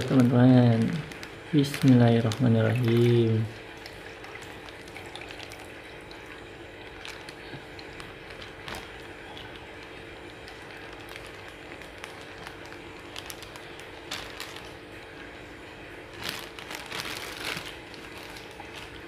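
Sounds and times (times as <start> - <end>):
plastic bag rustling: 0.0 - 3.5, 7.0 - 19.0
steady low hum: 0.0 - 19.0
water pouring: 0.0 - 19.0.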